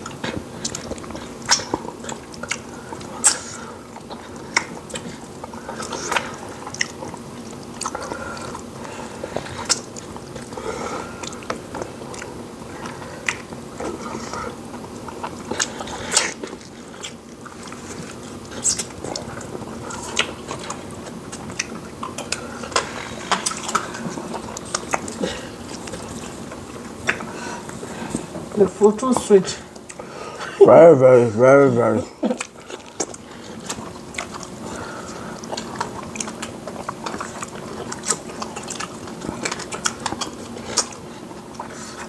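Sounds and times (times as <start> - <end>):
lip smacks: 0.0 - 28.5, 29.7 - 30.1, 32.3 - 42.0
wet chewing: 0.0 - 31.2, 31.8 - 42.0.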